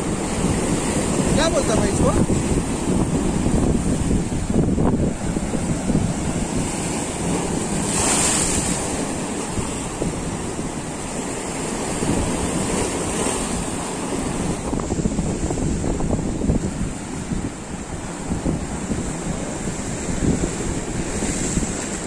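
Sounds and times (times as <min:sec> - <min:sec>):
surf breaking over rocks: 0:00.0 - 0:22.0
wind buffeting microphone: 0:00.0 - 0:22.0.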